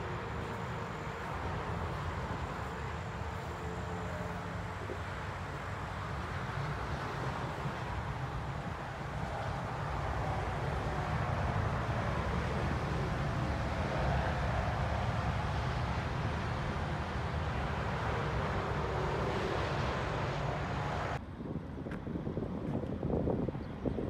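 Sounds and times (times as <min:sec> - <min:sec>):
highway traffic roar: 0:00.0 - 0:24.0
wind on microphone: 0:00.0 - 0:24.0.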